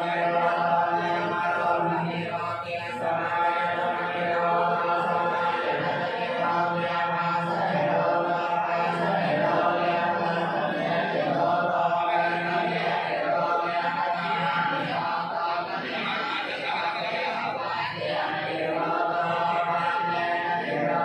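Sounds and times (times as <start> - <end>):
monks chanting in unison: 0.0 - 21.0.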